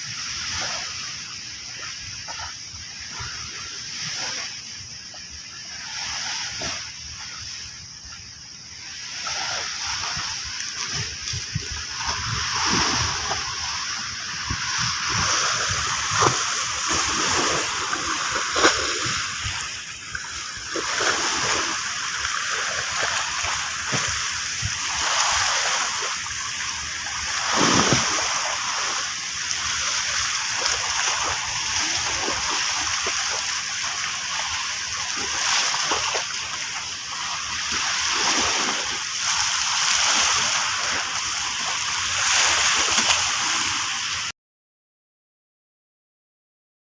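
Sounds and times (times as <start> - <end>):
waves washing in and splashing: 0.0 - 44.3.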